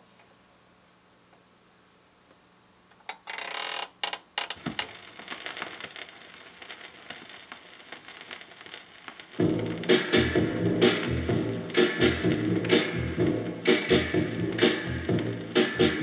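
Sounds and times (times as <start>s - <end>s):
vinyl crackle and pops: 2.2s - 16.0s.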